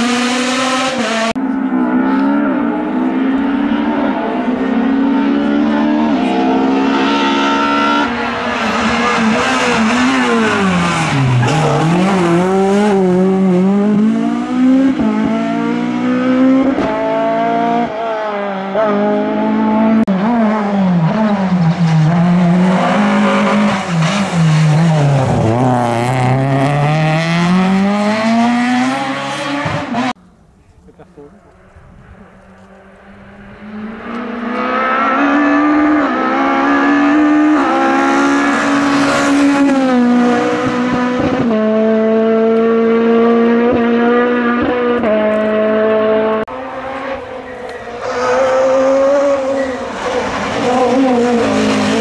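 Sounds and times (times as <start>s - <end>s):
rally car engines revving: 0.0s - 30.2s, 32.0s - 52.0s.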